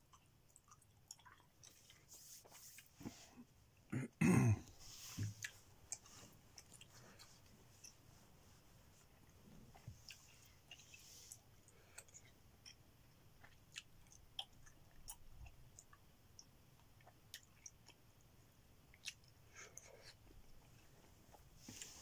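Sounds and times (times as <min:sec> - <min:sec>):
person chewing gum: 0:00.0 - 0:02.9, 0:05.2 - 0:08.0, 0:09.7 - 0:22.0.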